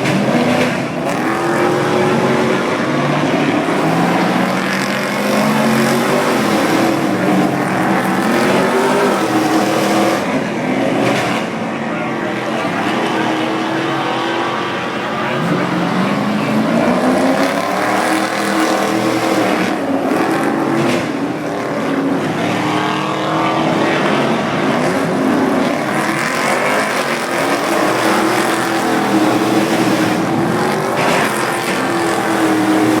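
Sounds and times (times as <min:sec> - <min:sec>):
truck engines revving: 0:00.0 - 0:33.0.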